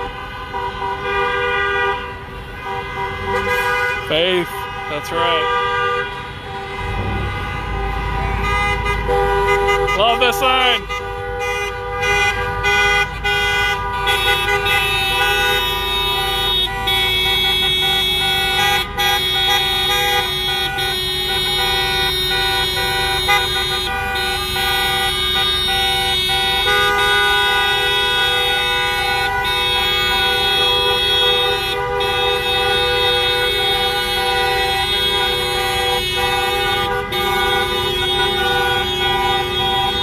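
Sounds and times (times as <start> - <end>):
car horns honking: 0.0 - 40.0
traffic: 0.0 - 40.0.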